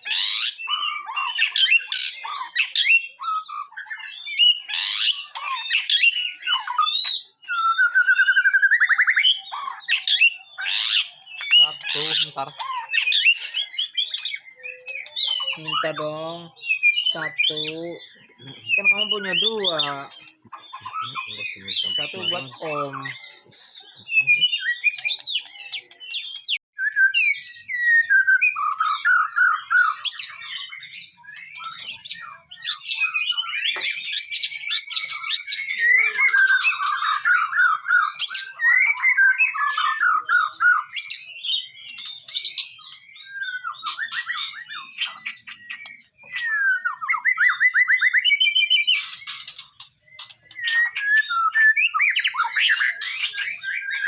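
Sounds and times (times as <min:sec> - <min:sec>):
bird singing whistles and trills: 0:00.0 - 0:54.0.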